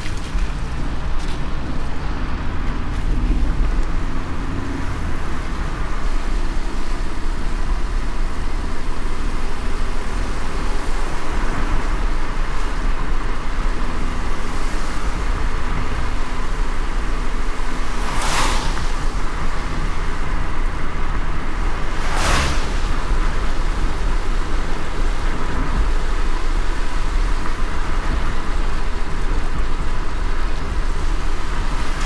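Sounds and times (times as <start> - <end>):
hiss of rain and wet road: 0.0 - 32.0
road and tyre rumble: 0.0 - 32.0.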